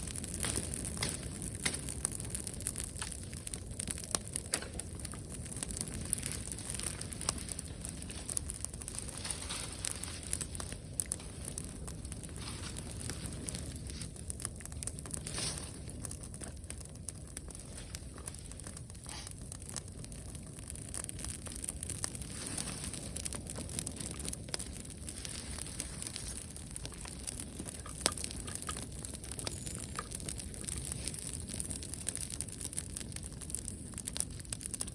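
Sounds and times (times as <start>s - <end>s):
wood bonfire crackling: 0.0s - 34.9s.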